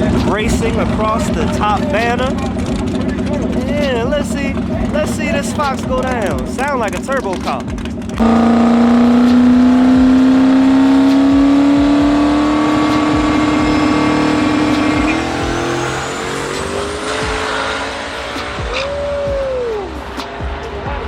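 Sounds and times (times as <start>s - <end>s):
drag-racing engine at full throttle: 0.0s - 21.0s.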